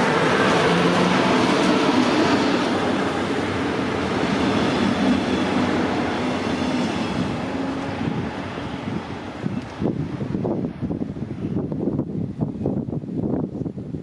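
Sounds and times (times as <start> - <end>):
train wheels on rail: 0.0 - 12.1.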